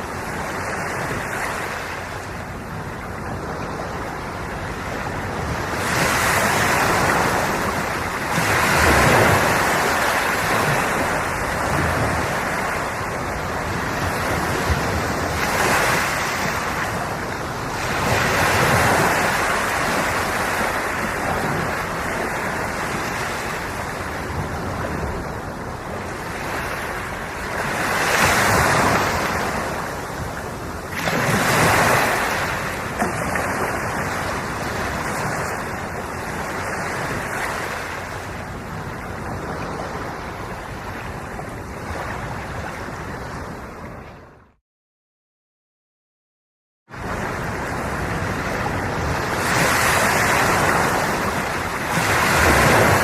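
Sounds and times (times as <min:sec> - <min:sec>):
sea waves washing in: 0:00.0 - 0:44.4, 0:46.9 - 0:53.0.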